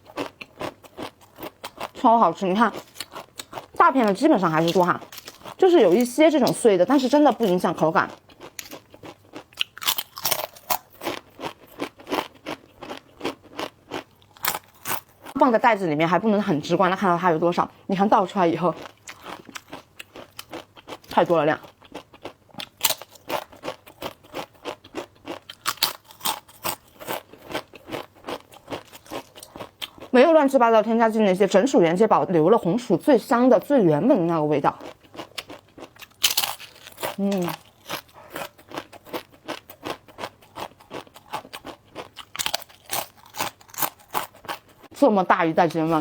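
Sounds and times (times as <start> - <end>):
chewing crisp chips: 0.0 - 15.4, 18.4 - 30.2, 34.7 - 45.0.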